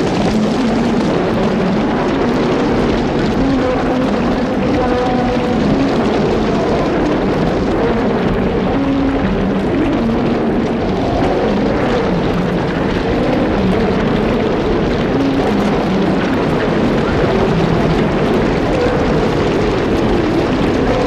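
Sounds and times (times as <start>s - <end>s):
lions growling and roaring: 0.0s - 21.0s.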